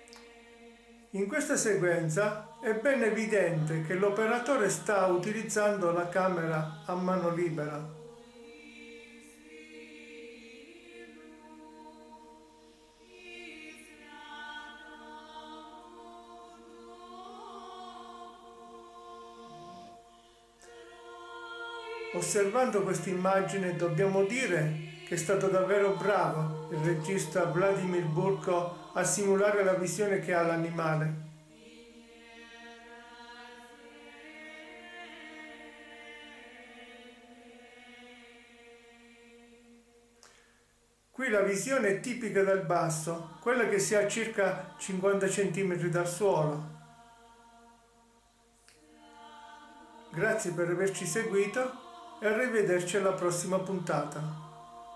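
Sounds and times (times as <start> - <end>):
choir singing held chords: 0.0 - 54.9
quiet chant-like soundtrack music: 0.0 - 54.9.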